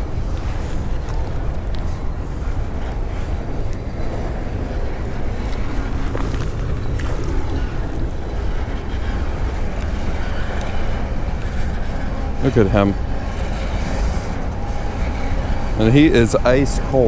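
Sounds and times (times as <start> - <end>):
passing train rumble: 0.0 - 17.0
wind buffeting microphone: 0.0 - 17.0.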